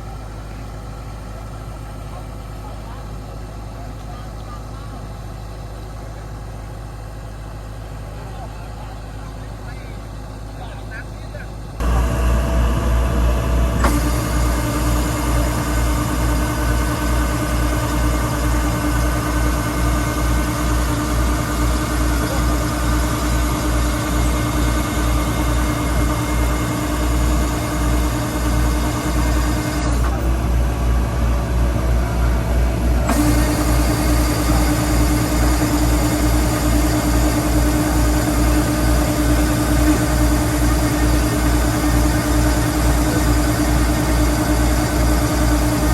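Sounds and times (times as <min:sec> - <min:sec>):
combine harvester engine running: 0:00.0 - 0:45.9.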